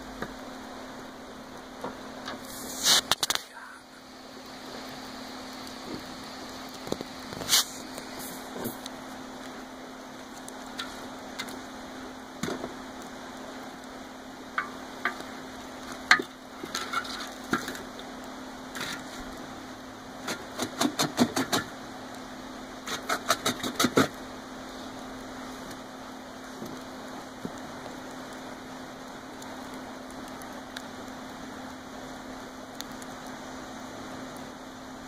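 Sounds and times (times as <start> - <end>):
burning logs crackling: 0.0 - 35.0.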